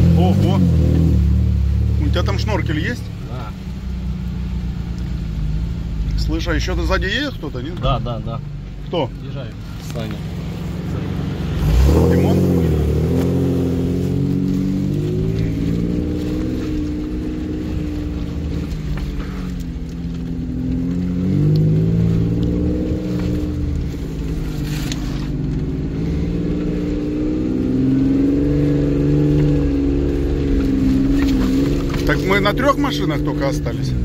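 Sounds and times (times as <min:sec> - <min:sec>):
car engine under load in cabin: 0:00.0 - 0:34.0.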